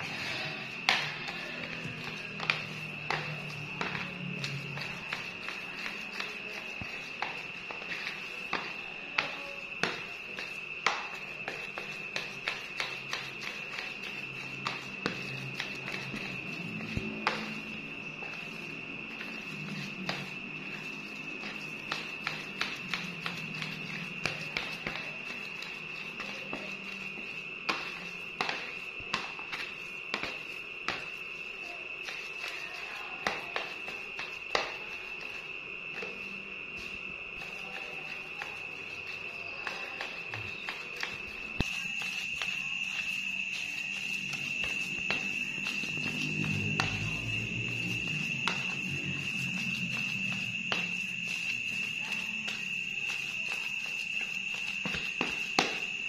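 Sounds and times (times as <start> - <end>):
high-pitched insect drone: 0.0 - 56.0
high-pitched whine: 0.0 - 56.0.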